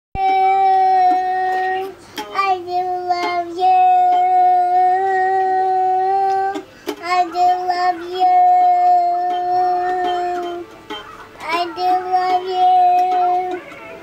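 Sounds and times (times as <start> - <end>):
child singing: 0.2 - 14.0
toy guitar strums: 0.2 - 14.0.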